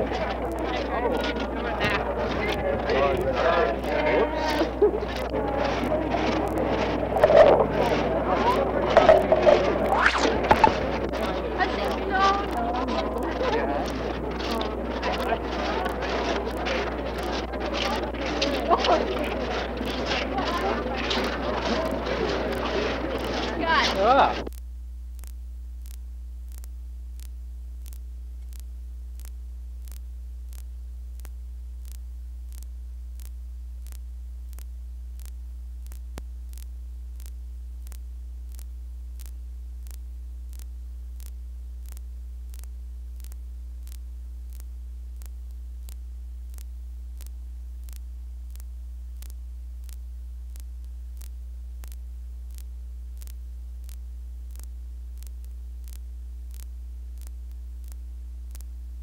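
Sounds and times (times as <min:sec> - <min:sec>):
faint ticks: 0:00.0 - 0:59.0
low electrical hum: 0:00.0 - 0:59.0.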